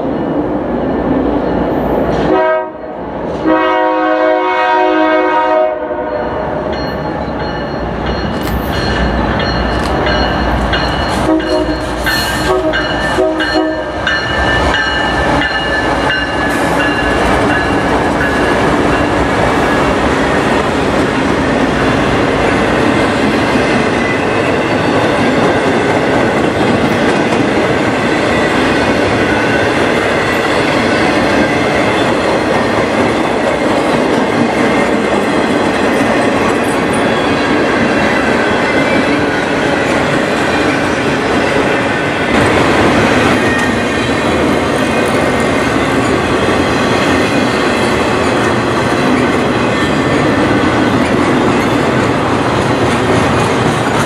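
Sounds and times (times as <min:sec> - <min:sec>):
steel wheels running over rails: 0:06.8 - 0:54.0.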